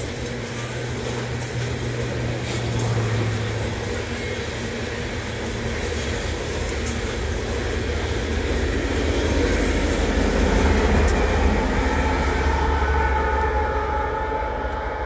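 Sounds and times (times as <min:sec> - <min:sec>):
train cars rumbling on rails: 0:00.0 - 0:15.0.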